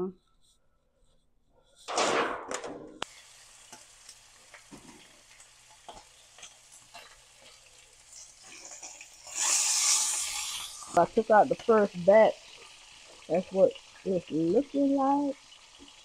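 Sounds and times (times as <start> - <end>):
chicken sizzling in a frying pan: 3.0 - 16.0.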